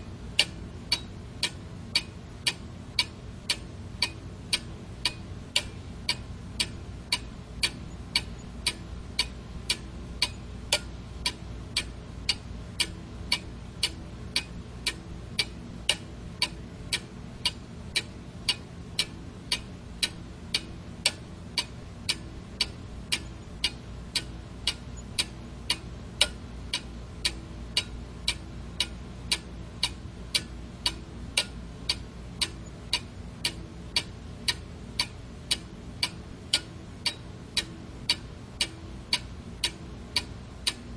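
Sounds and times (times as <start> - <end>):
low steady hum: 0.0 - 40.9
clock ticking: 0.4 - 40.8.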